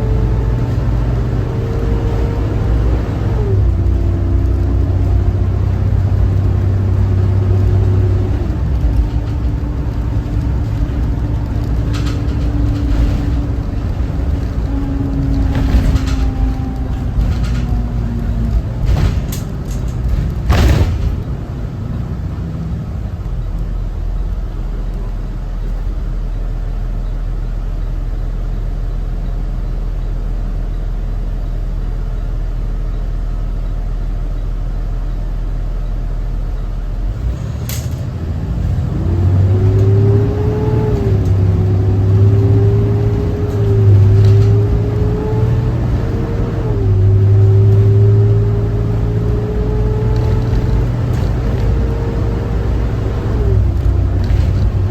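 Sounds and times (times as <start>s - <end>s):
diesel bus engine: 0.0s - 54.9s.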